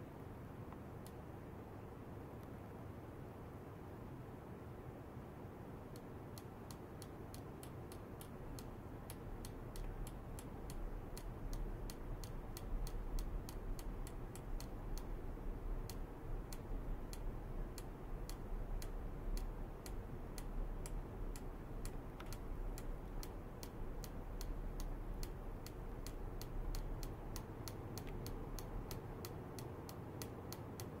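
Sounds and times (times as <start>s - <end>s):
regular ticking clicks: 5.8s - 31.0s.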